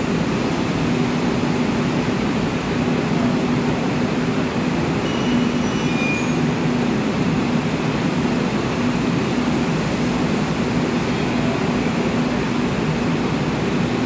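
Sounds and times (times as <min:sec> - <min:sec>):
train machinery hum: 0:00.0 - 0:14.0.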